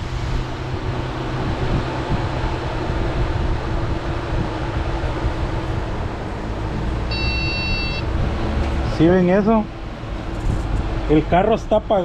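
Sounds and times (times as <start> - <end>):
radiator fans whooshing: 0.0 - 12.0.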